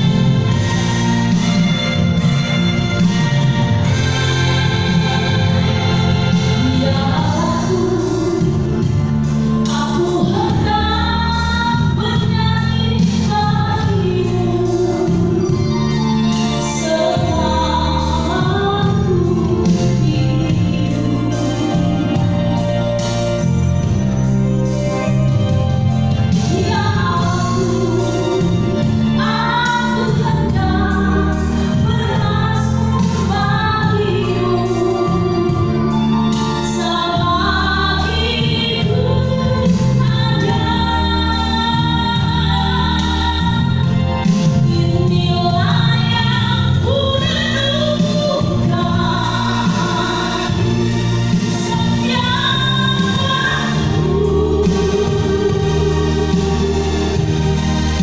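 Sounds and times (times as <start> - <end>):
instrumental backing with bass: 0.0 - 58.0
woman singing: 0.0 - 58.0.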